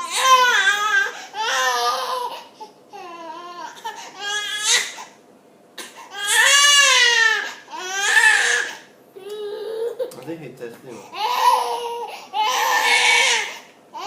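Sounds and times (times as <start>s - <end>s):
baby crying: 0.0s - 5.1s, 5.8s - 10.2s, 11.0s - 14.0s.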